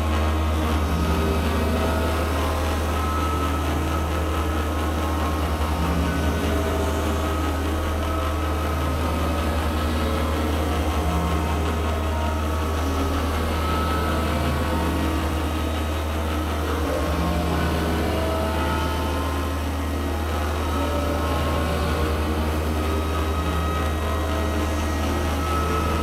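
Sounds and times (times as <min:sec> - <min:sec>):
deep electronic drone hum: 0:00.0 - 0:26.0
high electronic tones: 0:00.1 - 0:26.0.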